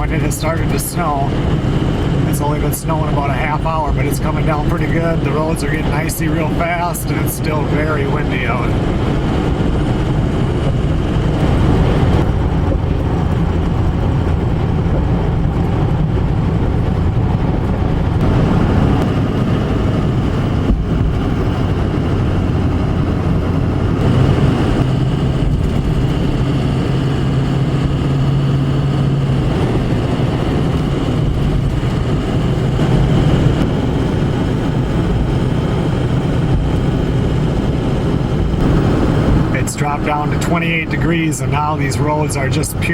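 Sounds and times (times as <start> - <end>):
car engine hum: 0.0 - 42.9
tyre and road noise: 0.0 - 42.9.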